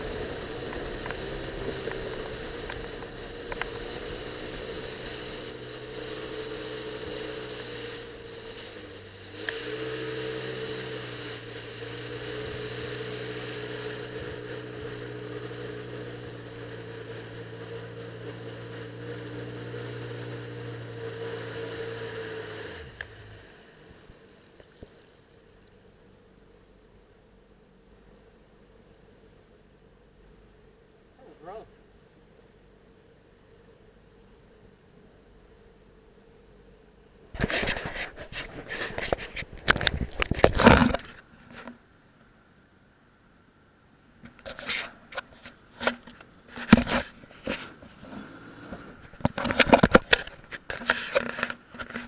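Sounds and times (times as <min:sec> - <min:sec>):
jet ski engine running: 0:00.0 - 0:27.0, 0:34.2 - 0:41.8, 0:44.2 - 0:52.0.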